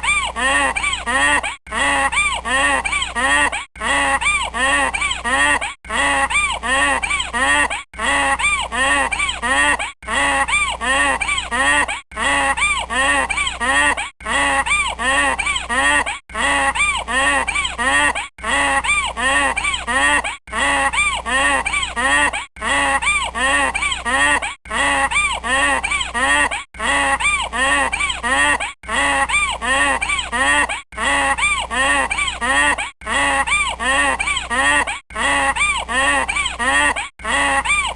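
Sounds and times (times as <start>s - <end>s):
donkey braying: 0.0s - 37.9s.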